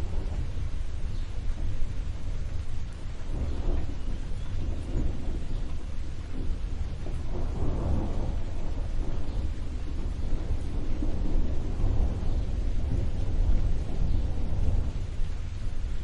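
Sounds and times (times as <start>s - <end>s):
rain hissing: 0.0s - 16.0s
thunder rumbling: 0.0s - 16.0s.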